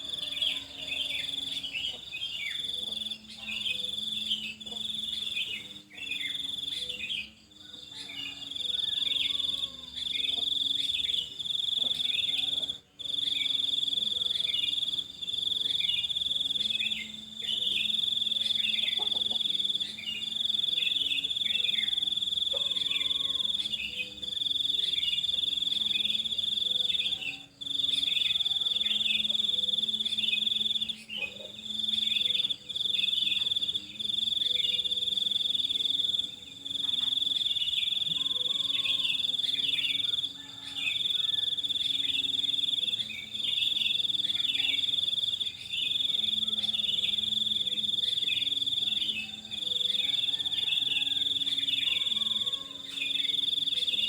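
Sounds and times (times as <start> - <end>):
cricket trilling: 0.0 - 54.0
faint bird chirps: 0.0 - 54.0.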